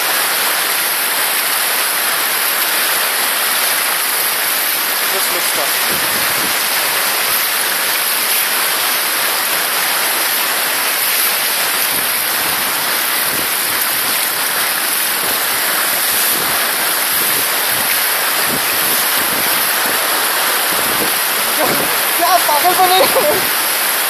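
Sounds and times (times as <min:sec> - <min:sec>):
stream rushing over stones: 0:00.0 - 0:24.0.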